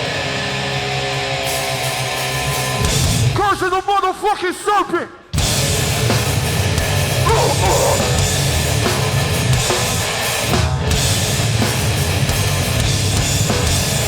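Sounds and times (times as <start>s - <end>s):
hardcore band playing live: 0.0s - 3.4s, 5.4s - 14.0s.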